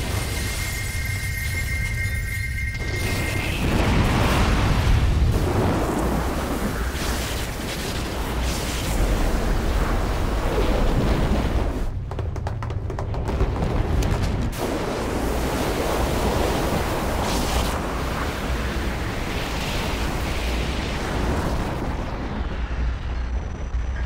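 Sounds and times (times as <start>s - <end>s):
rushing wind-like noise: 0.0s - 24.0s.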